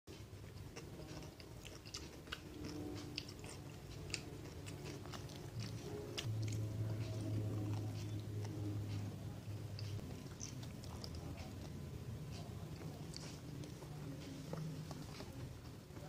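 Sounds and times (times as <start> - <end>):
biting and chewing food: 0.1 - 16.0
low steady hum: 0.1 - 16.0.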